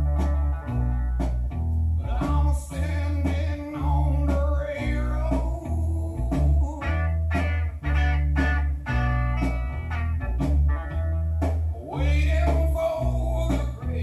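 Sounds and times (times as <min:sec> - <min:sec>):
plucked guitar notes: 0:00.0 - 0:04.3, 0:06.4 - 0:14.0
deep bass line: 0:00.0 - 0:14.0.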